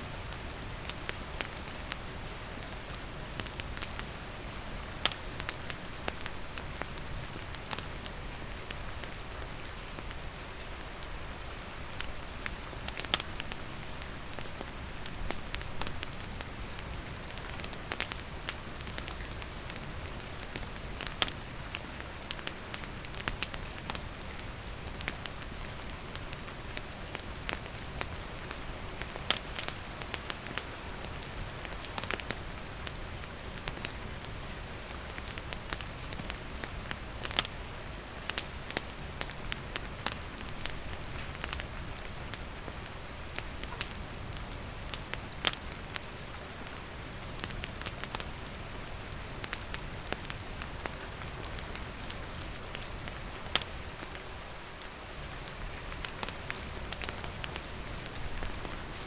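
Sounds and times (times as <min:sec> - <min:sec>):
campfire wood crackling: 0:00.0 - 0:59.0
steady rain hiss: 0:00.0 - 0:59.0.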